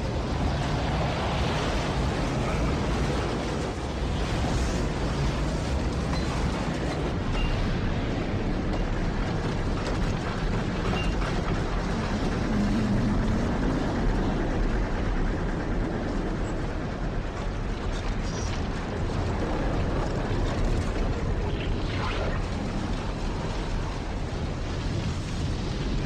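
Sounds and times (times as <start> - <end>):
rumbling roar of tornado wind: 0.0 - 26.0.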